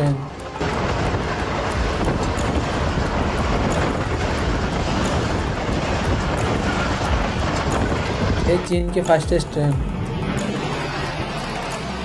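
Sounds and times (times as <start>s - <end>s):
train wheels rushing on rail: 0.0s - 12.0s
wind buffeting microphone: 0.0s - 12.0s.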